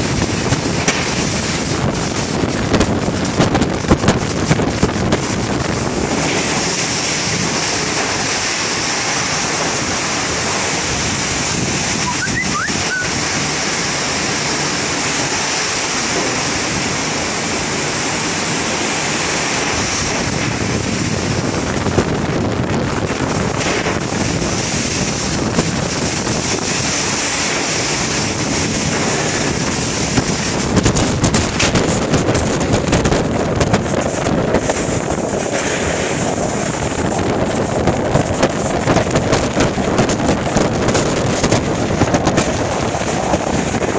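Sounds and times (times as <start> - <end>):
gusting wind: 0.0 - 43.9
heavy rain rushing: 0.0 - 43.9
wind buffeting microphone: 0.0 - 43.9.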